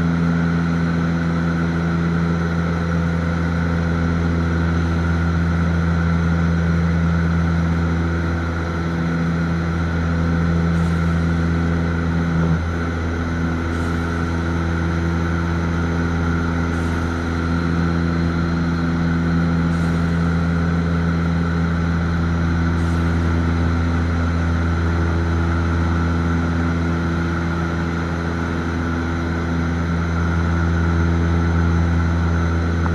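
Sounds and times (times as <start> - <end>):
steady engine drone: 0.0 - 32.9.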